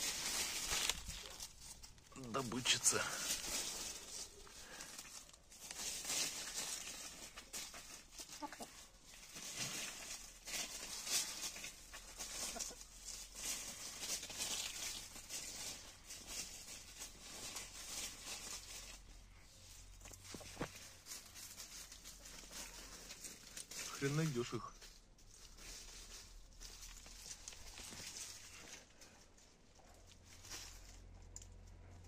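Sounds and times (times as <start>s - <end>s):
hens scratching through leaf litter: 0.0s - 31.9s.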